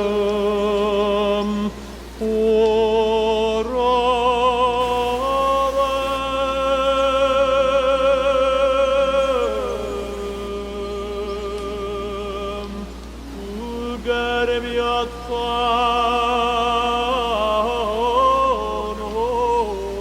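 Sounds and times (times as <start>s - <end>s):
person singing with vibrato: 0.0s - 20.0s.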